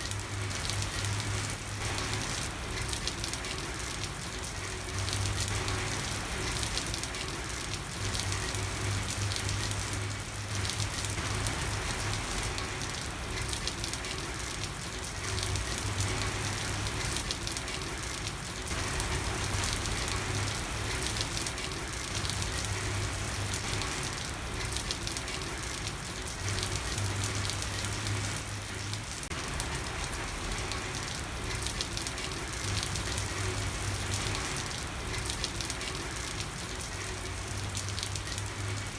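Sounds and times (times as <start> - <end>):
heavy rain on street: 0.0 - 38.9.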